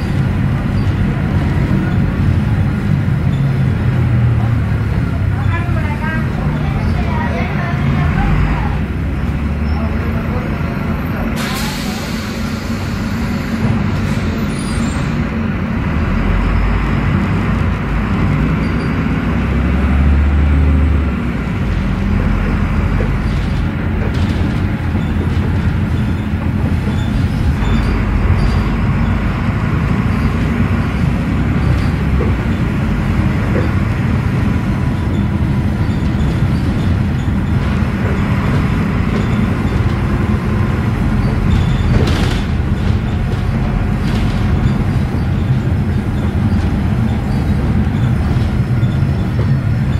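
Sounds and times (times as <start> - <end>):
bus diesel engine running: 0.0 - 49.9
road noise rumble: 0.0 - 49.9.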